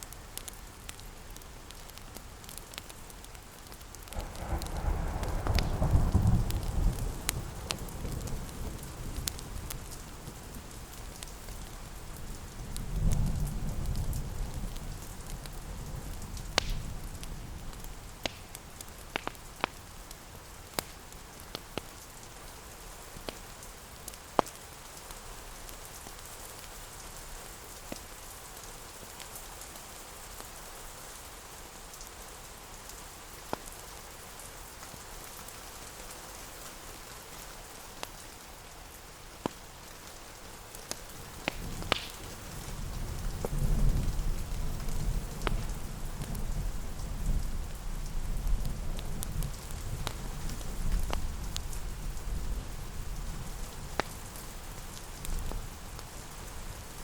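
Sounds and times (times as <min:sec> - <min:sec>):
wood fire crackling and popping: 0:00.0 - 0:30.6, 0:31.3 - 0:57.0
steady rain: 0:00.0 - 0:57.0.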